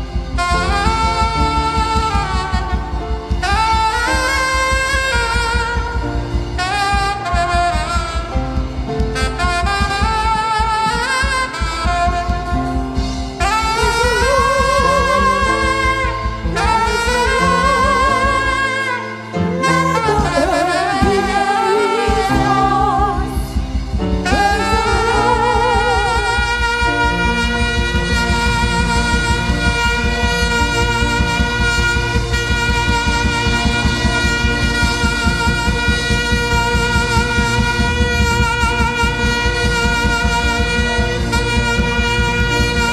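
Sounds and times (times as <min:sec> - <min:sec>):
live gospel band music: 0:00.0 - 0:42.9
saxophone-like lead melody: 0:00.0 - 0:42.9.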